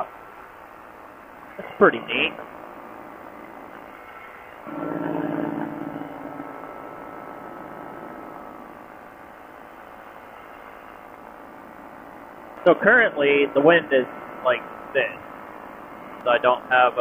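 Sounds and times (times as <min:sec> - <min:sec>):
loud droning tone: 0:01.1 - 0:17.0
ultralight engine and propeller: 0:01.3 - 0:16.9.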